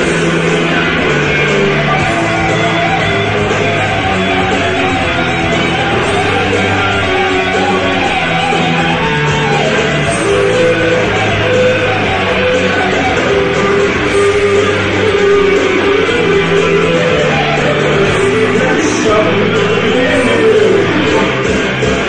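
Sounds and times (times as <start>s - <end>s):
backing guitar track: 0.0s - 22.0s
electric guitar: 0.0s - 22.0s
held bass notes: 0.0s - 22.0s.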